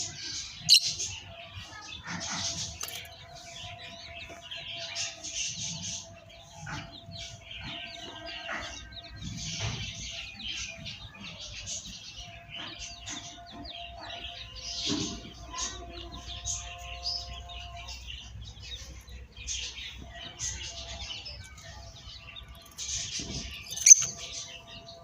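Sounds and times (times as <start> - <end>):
baby parrots chirping: 0.1 - 25.0.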